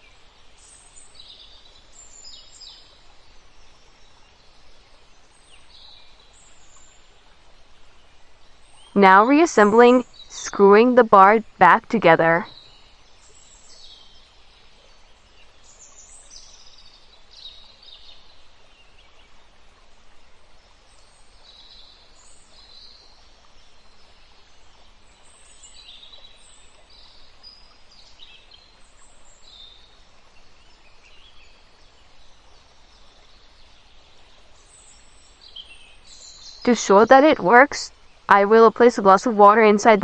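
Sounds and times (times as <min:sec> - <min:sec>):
steady low background noise: 0:00.0 - 0:40.0.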